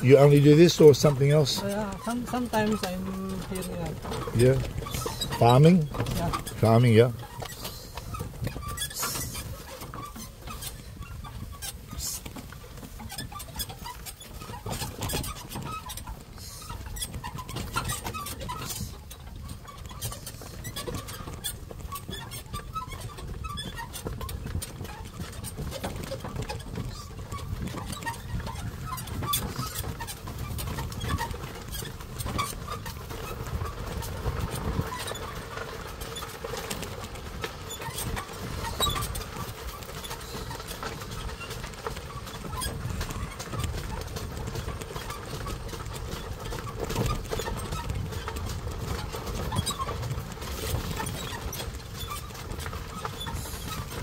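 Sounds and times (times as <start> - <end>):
cart rattling: 0.0 - 54.0
cart rolling on dirt path: 0.0 - 54.0
hooves: 0.0 - 54.0.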